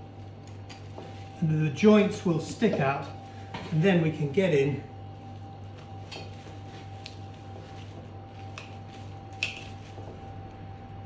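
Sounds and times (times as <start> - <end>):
background hum: 0.0 - 11.0.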